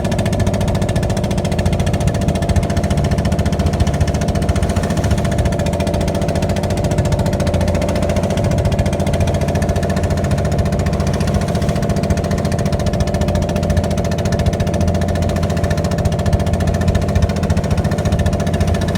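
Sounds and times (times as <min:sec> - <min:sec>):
engine chugging steadily: 0:00.0 - 0:18.9.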